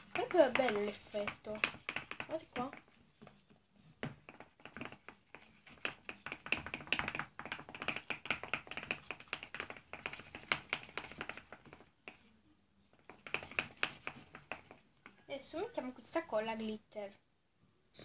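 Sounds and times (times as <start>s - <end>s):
pencil tapping plastic bowl: 0.0s - 12.3s, 12.9s - 15.3s.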